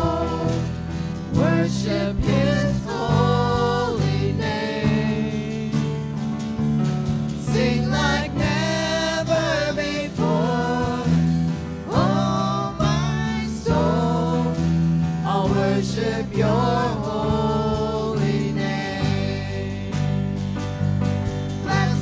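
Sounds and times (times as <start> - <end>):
voices singing praise song: 0.0 - 6.2, 7.1 - 20.4, 21.5 - 22.0
band accompaniment: 0.0 - 22.0.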